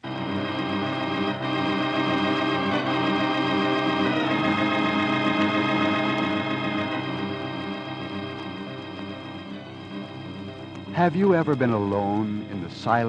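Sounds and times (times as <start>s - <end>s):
organ playing held chords: 0.0s - 13.0s.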